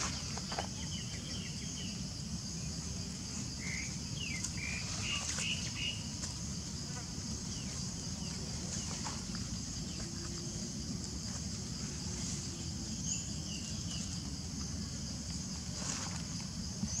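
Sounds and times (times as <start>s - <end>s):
steady high-pitched hiss: 0.0s - 17.0s.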